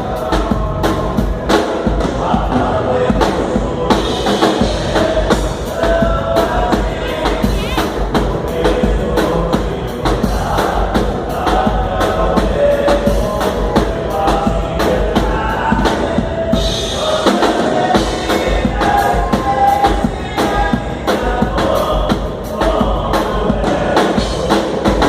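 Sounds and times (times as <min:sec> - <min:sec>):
drum kit beat: 0:00.0 - 0:25.0
live dance band playing: 0:00.0 - 0:25.0.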